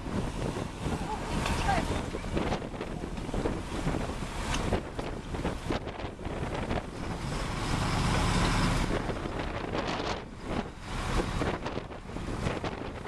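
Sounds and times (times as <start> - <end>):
boat engine running: 0.0 - 13.0
water splashing along hull: 0.0 - 13.0
wind buffeting microphone: 0.0 - 13.0.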